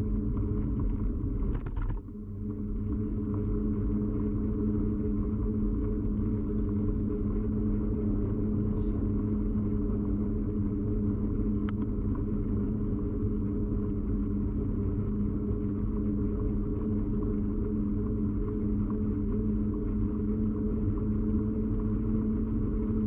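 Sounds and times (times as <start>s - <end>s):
bicycle ride rumbling hum: 0.0s - 23.0s.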